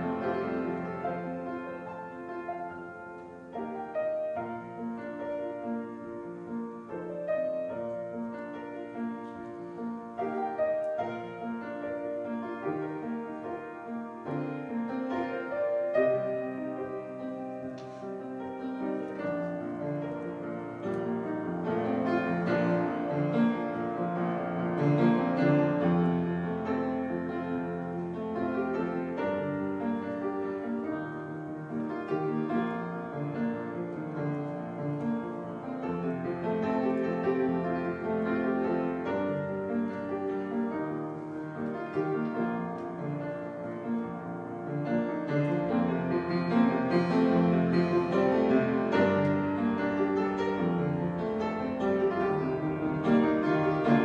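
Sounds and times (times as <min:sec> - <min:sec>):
solo piano playing: 0:00.0 - 0:54.0.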